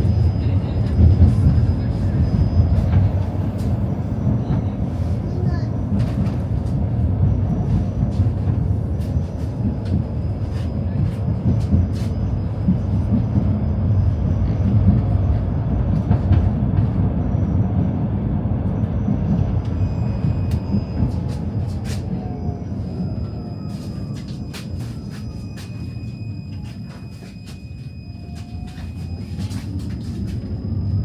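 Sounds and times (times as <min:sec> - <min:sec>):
tram wheels rumbling on track: 0:00.0 - 0:31.0.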